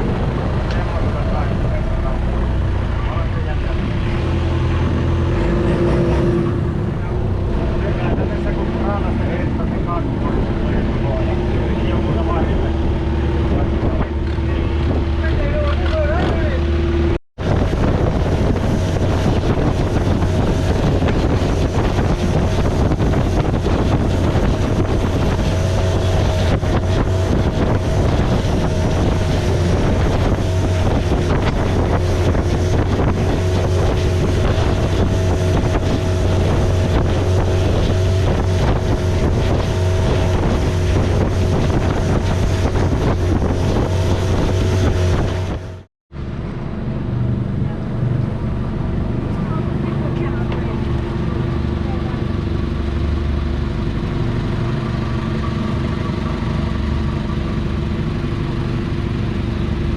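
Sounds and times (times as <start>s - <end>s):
wind rushing: 0.0s - 49.8s
boat engine running: 0.0s - 59.9s.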